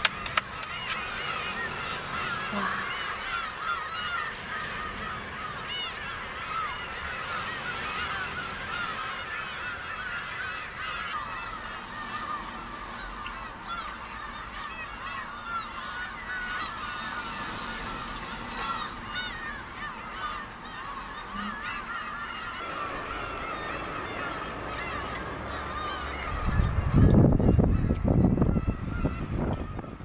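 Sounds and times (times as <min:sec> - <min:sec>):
flock of birds calling: 0:00.0 - 0:30.0.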